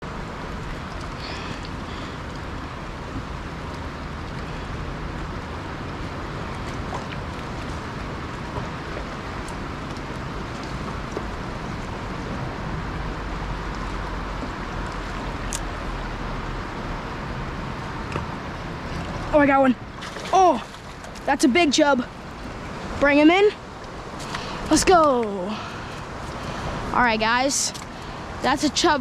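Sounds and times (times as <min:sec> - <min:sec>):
water noise: 0:00.0 - 0:29.0
wind: 0:00.0 - 0:29.0.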